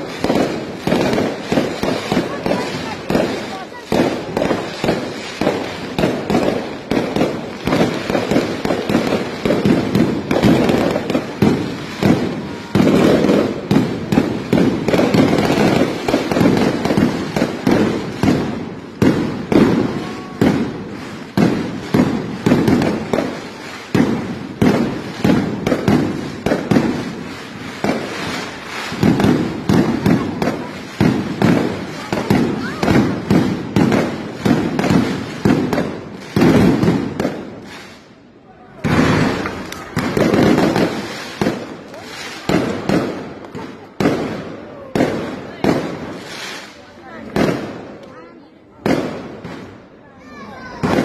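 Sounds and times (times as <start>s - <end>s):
fireworks cracks and bangs: 0.0s - 51.0s.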